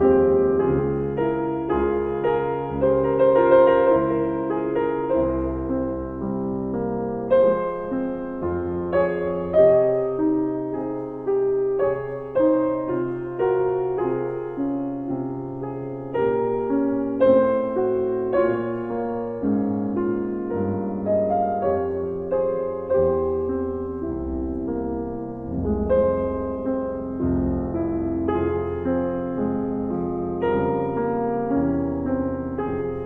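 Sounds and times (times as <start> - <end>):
slow calm piano music: 0.0 - 33.0.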